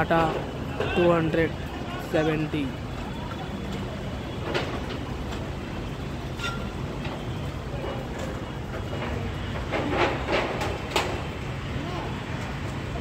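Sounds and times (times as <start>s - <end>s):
diesel machinery engines rumbling: 0.0s - 13.0s.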